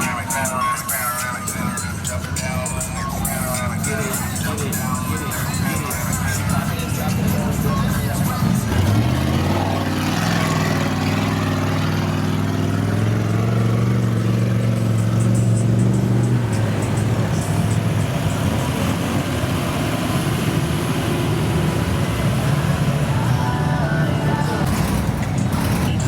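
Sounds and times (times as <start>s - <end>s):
engine at high revs: 1.5s - 26.0s.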